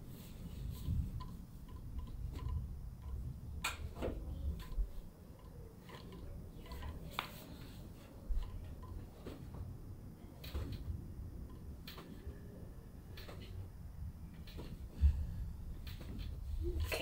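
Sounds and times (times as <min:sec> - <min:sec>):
faint regular ticking: 0:00.4 - 0:17.0.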